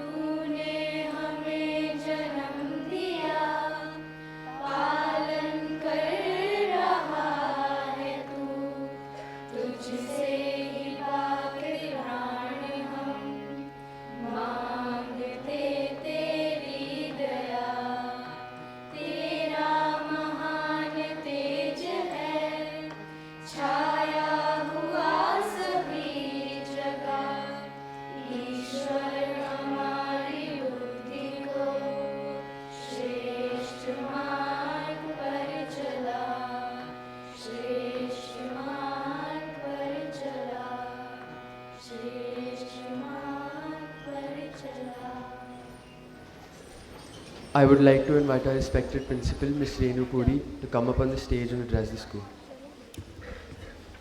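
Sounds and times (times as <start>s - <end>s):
devotional singing: 0.0s - 52.3s
steady held accompaniment: 0.0s - 54.0s.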